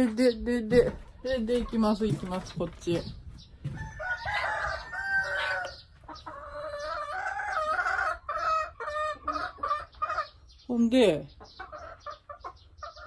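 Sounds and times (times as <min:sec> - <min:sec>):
chickens calling: 0:00.0 - 0:13.0.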